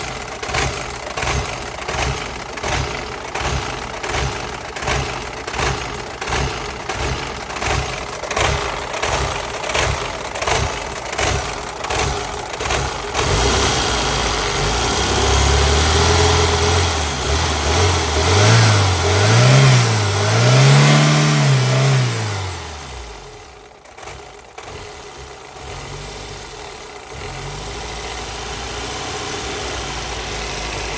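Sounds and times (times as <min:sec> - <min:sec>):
car engine idling roughly: 0:00.0 - 0:30.9.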